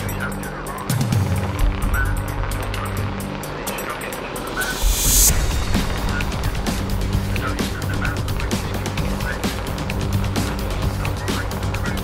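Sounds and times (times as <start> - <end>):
background music with steady beat: 0.0 - 12.0
sustained low bass: 1.0 - 12.0.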